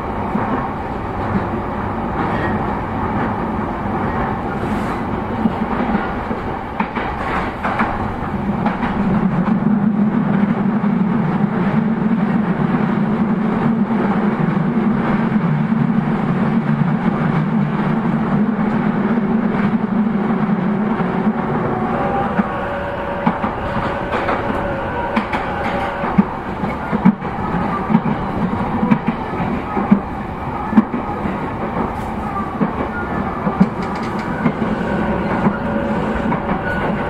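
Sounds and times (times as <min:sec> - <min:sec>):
train wheels rolling on rail: 0:00.0 - 0:37.0.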